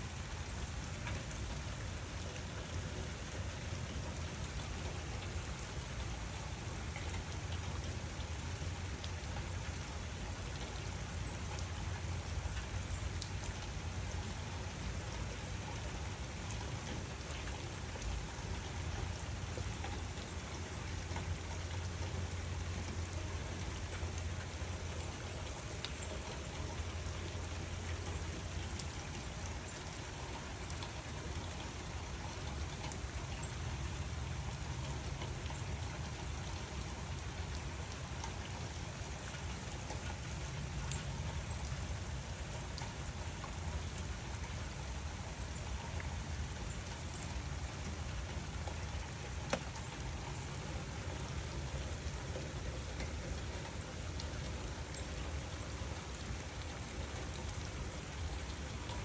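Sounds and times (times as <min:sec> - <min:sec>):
rain drop ticks: 0:00.0 - 0:59.0
steady rainfall hiss: 0:00.0 - 0:59.0.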